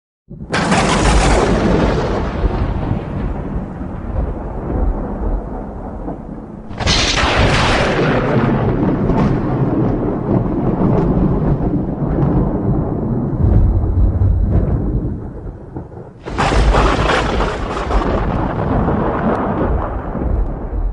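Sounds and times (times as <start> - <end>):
deep rumble: 0.3 - 20.9
loud crack of thunder: 0.3 - 20.9
thunder rumbling: 0.3 - 20.9.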